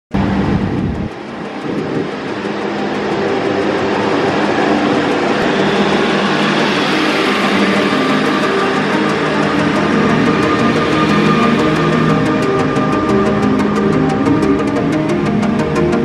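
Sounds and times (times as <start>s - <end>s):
diesel railcar passing: 0.2s - 16.0s.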